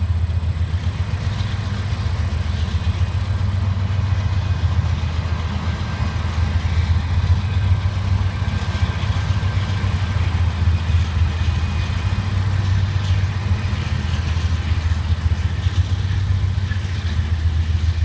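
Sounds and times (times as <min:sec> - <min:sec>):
locomotive engines droning: 0:00.0 - 0:18.0.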